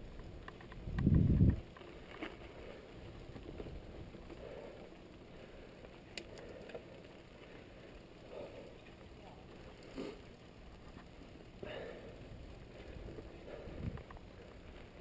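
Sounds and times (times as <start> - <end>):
bike rolling noise: 0.0 - 15.0.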